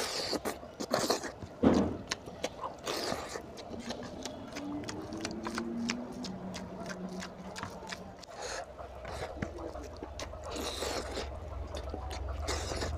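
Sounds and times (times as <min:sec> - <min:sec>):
chewing and mouth noises: 0:00.0 - 0:12.9
fingers squishing rice and curry: 0:00.0 - 0:12.9.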